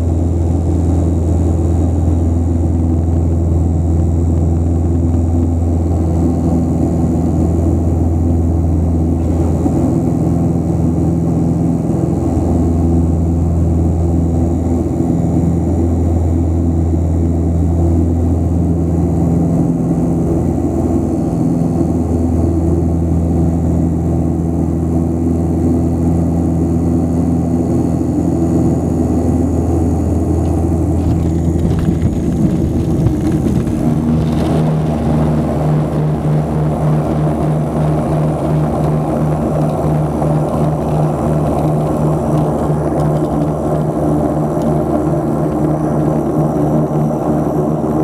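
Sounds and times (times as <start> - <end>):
rumble from rough ground: 0.0 - 21.0, 28.6 - 48.0
turboprop engines droning: 0.0 - 48.0.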